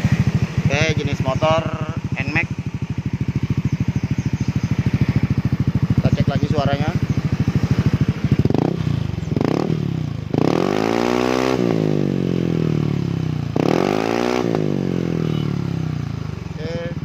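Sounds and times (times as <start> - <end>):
scooter engine idling and revving: 0.0 - 17.0.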